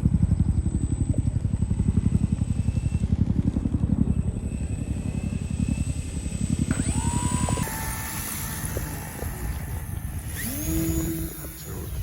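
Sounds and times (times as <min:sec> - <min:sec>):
model plane engine whine: 0:00.0 - 0:12.0
small engine throbbing: 0:00.0 - 0:12.0.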